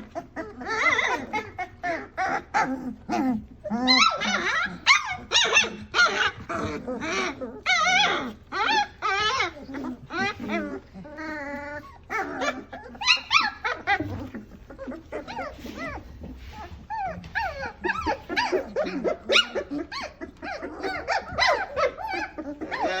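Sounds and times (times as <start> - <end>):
puppies squealing and whining: 0.0 - 23.0.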